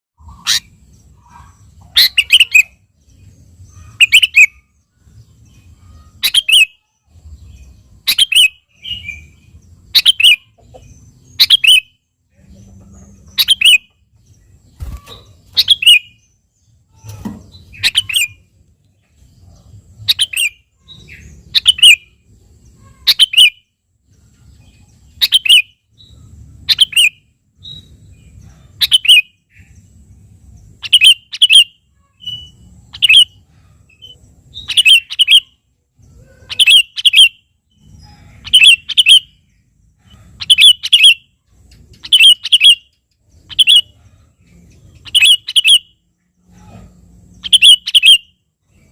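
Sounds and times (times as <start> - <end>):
bulbul calling: 0.2 - 2.8, 3.6 - 4.7, 6.0 - 6.9, 7.5 - 14.0, 14.8 - 18.5, 19.5 - 22.2, 25.2 - 29.8, 30.7 - 35.6, 36.2 - 48.9.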